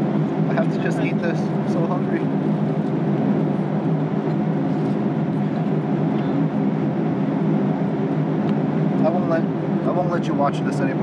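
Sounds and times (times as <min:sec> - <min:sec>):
jet airliner cabin noise: 0:00.0 - 0:11.0.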